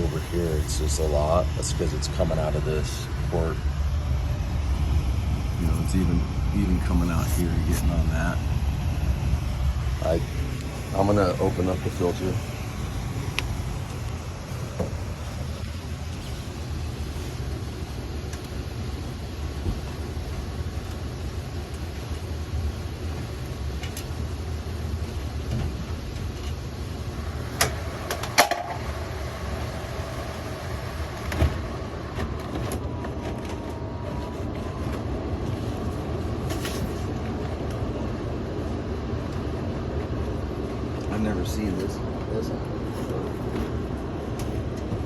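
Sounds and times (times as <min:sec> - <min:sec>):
furnace blower low rumble: 0:00.0 - 0:45.0.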